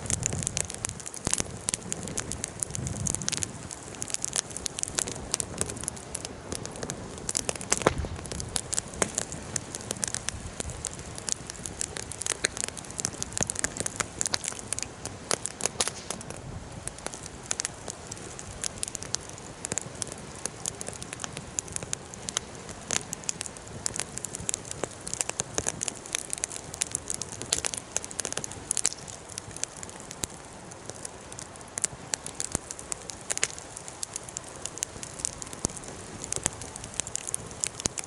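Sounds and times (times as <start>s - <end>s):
soft steady fire hiss: 0.0s - 38.0s
wood fire crackling and popping: 0.0s - 38.0s.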